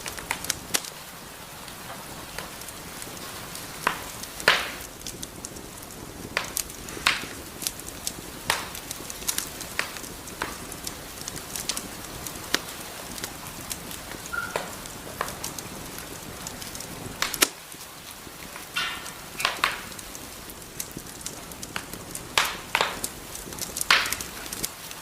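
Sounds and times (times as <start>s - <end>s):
fire crackles and pops: 0.0s - 25.0s
fire soft hiss: 0.0s - 25.0s.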